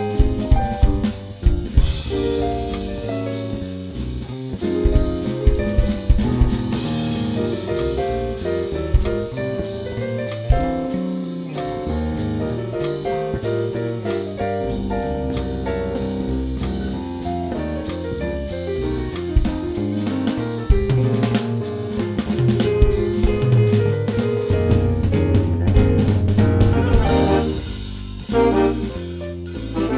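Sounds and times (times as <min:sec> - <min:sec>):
fast cymbal beat: 0:00.0 - 0:29.9
jazz band playing: 0:00.0 - 0:29.9.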